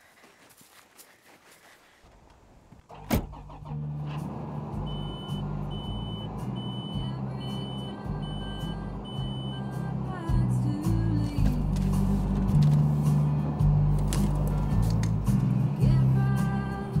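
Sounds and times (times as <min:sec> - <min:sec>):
tractor diesel engine idling: 0:02.9 - 0:17.0.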